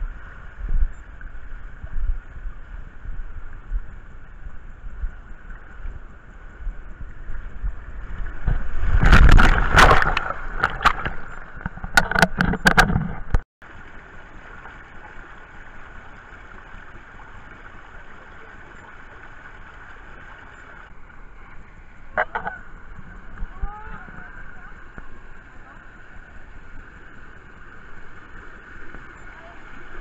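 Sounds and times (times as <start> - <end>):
water rushing along a slide: 0.0 - 30.0
water splashing: 4.9 - 30.0.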